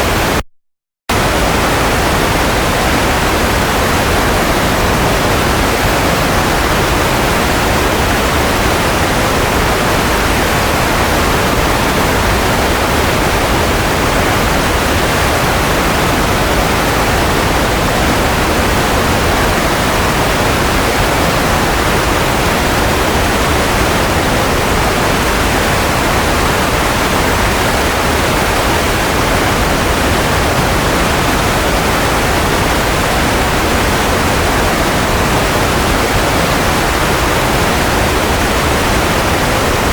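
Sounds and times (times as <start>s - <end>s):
white noise hiss: 1.1s - 39.9s.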